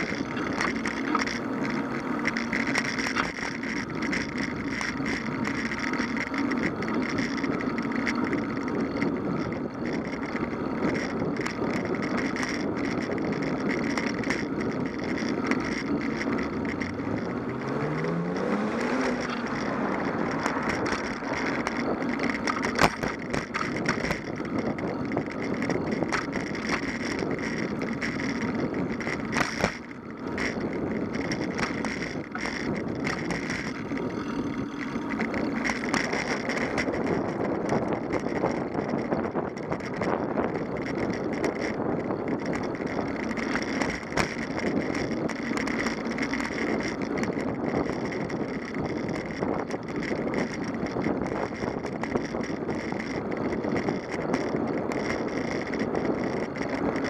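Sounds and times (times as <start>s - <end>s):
bicycle tyre rumble on asphalt: 0.0s - 57.0s
knocks and rattles: 0.0s - 57.0s
wind on microphone: 6.5s - 57.0s.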